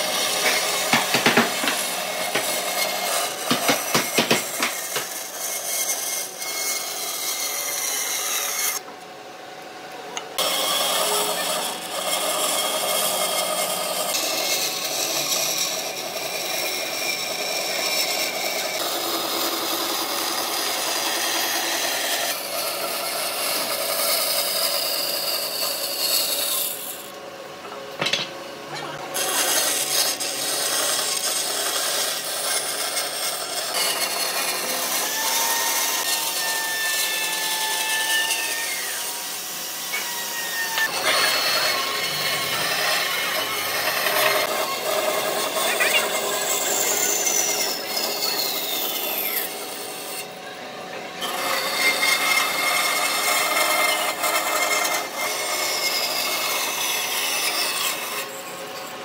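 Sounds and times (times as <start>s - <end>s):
band saw cutting wood: 0.0s - 8.9s, 10.2s - 27.2s, 27.8s - 59.0s.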